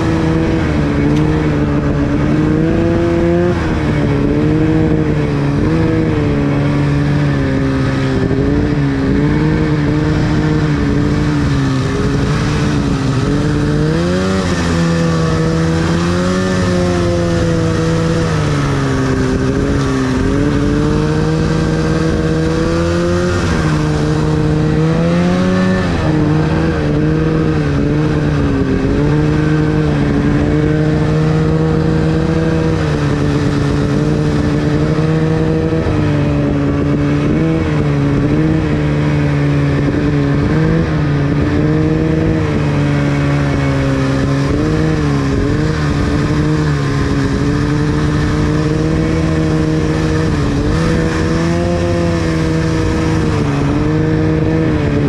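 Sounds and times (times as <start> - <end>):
rush of track and snow: 0.0 - 55.0
snowmobile engine running: 0.0 - 55.0.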